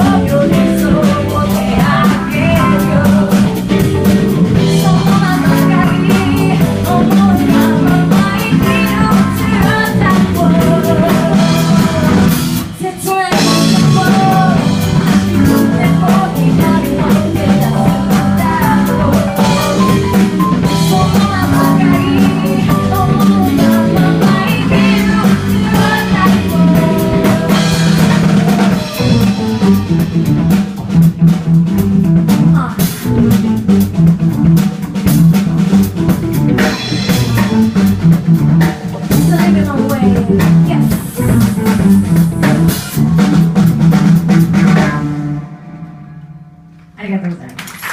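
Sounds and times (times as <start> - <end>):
bass line: 0.0 - 47.2
guitar: 0.0 - 47.5
drum kit: 0.0 - 47.9.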